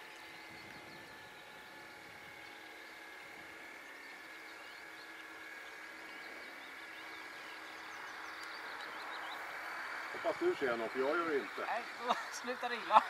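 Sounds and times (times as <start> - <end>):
model boat motor whine: 0.0 - 13.0
small birds chirping: 0.0 - 13.0.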